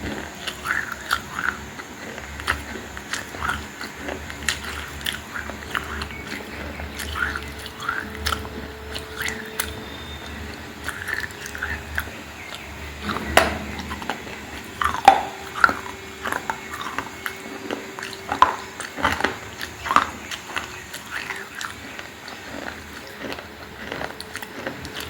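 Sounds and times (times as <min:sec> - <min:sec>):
chewing baked clay crunches: 0:00.0 - 0:25.0.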